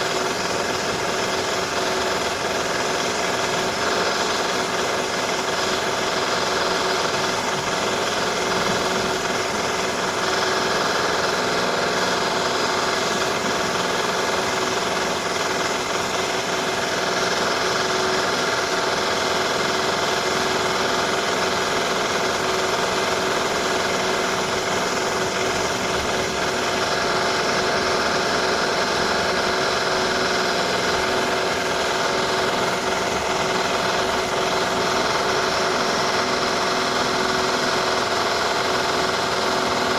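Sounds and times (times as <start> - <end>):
power drill running: 0.0 - 39.9.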